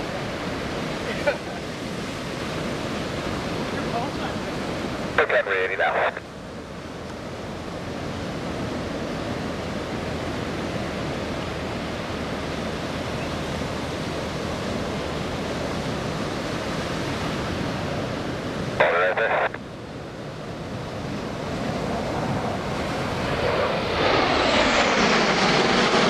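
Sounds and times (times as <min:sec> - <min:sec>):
distant jet engines roaring: 0:00.0 - 0:26.0.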